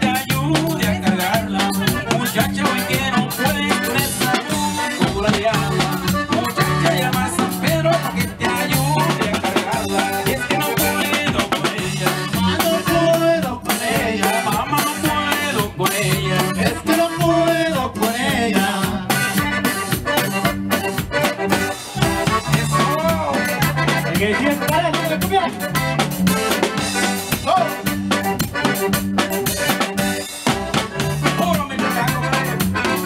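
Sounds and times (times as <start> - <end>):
accordion dance music: 0.0 - 33.0.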